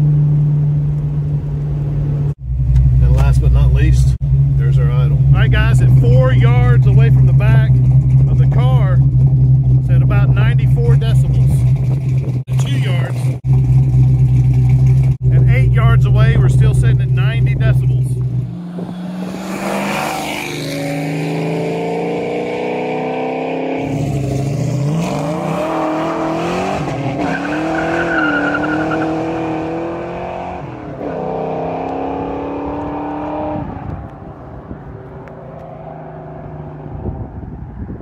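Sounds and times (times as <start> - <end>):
car exhaust accelerating: 0.0 - 38.0.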